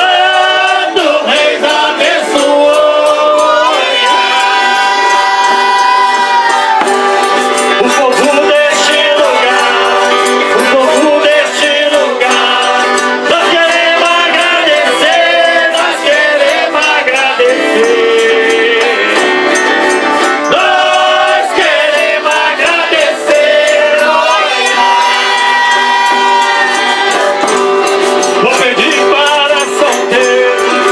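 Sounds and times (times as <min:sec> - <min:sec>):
button accordion chords: 0:00.0 - 0:30.9
jingling percussion: 0:00.0 - 0:30.9
voices singing: 0:00.0 - 0:30.9.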